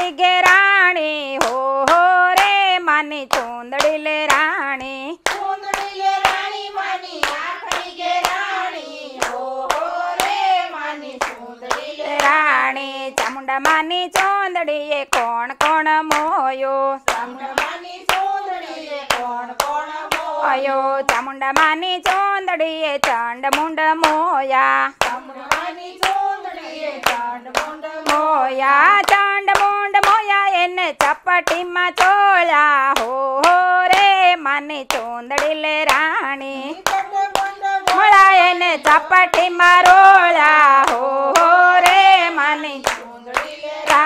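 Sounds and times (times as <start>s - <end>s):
hands clapping on a beat: 0.0s - 44.0s
women singing together: 0.0s - 44.0s.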